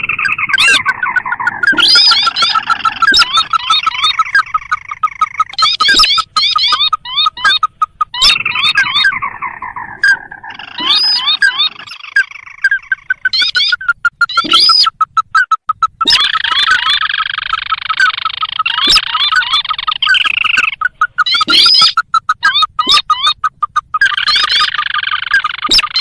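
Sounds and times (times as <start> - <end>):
crake calls: 0.0 - 26.0
falling bird trill: 0.0 - 26.0.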